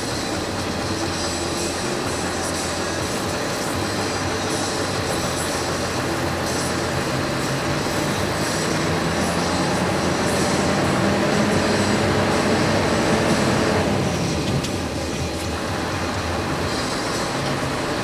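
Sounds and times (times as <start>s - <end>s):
road and cab noise: 0.0s - 18.0s
truck diesel engine droning: 0.0s - 18.0s.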